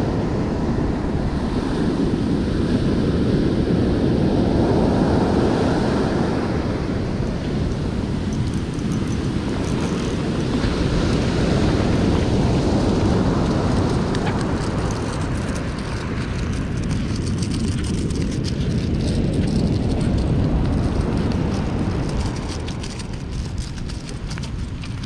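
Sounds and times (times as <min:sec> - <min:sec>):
breaking surf: 0:00.0 - 0:23.4
wind rumbling on microphone: 0:00.0 - 0:25.0.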